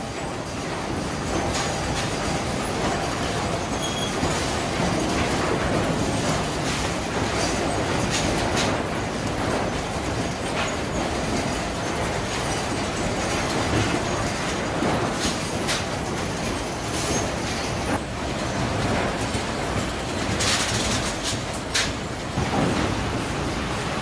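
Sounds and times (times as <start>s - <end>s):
sawmill machinery clattering: 0.0s - 24.0s.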